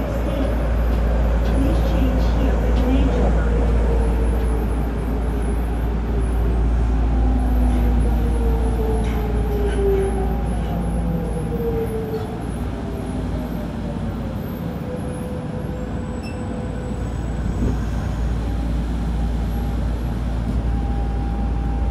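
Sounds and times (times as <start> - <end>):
wheels rumbling on rail: 0.0 - 21.9.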